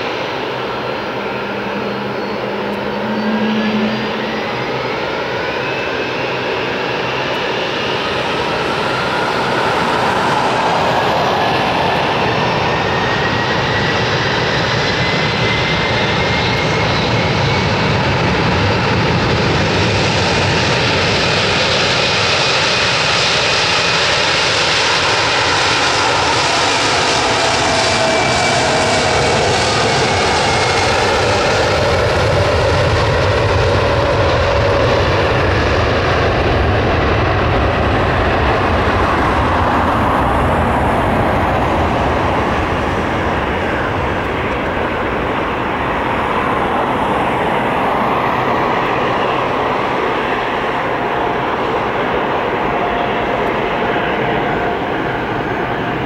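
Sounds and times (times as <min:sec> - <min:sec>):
jet engines roaring at takeoff: 0:00.0 - 0:56.0.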